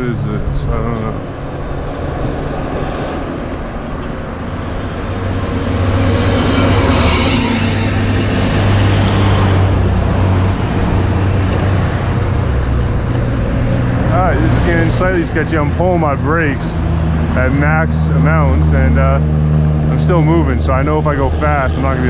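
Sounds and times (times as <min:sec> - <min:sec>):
steady low rumble: 0:00.0 - 0:22.0
vehicle passing close: 0:00.0 - 0:22.0.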